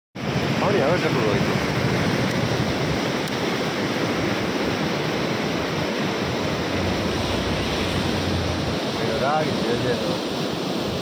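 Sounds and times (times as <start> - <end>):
water cascading over ledge: 0.2 - 11.0.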